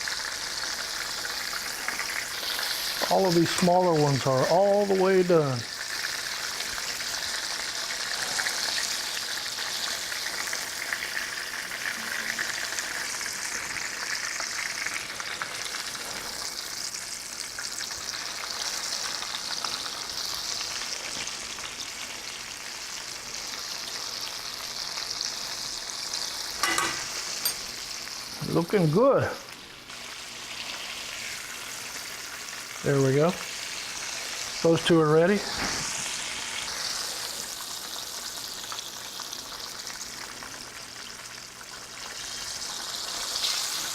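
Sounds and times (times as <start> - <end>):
meat sizzling in hot oil: 0.0 - 43.9.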